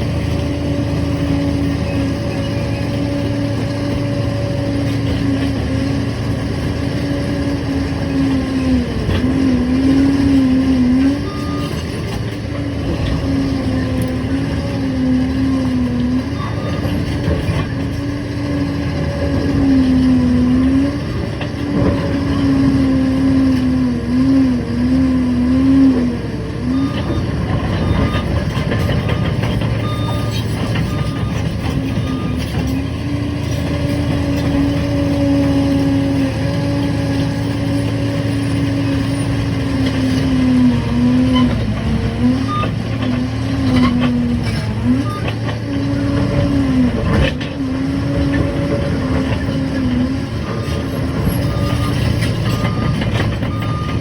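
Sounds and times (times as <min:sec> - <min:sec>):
bulldozer engine under load: 0:00.0 - 0:54.0.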